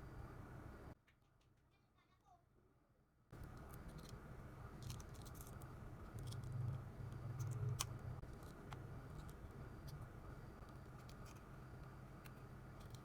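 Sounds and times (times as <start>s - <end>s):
steady low hum: 0.0s - 1.0s, 3.3s - 13.0s.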